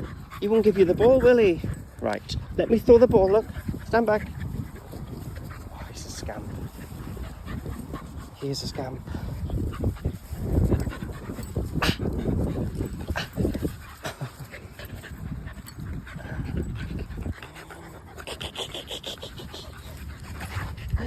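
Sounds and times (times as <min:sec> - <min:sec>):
dogs panting hard: 0:00.0 - 0:21.0.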